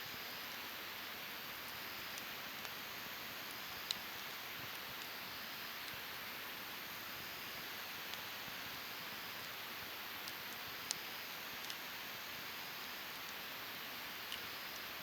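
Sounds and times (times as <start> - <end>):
campfire hissing and crackling: 0.0 - 15.0.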